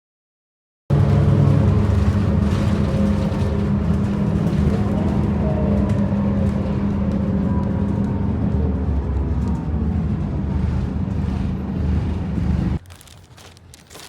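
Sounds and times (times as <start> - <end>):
vehicle engine humming: 0.9 - 14.0.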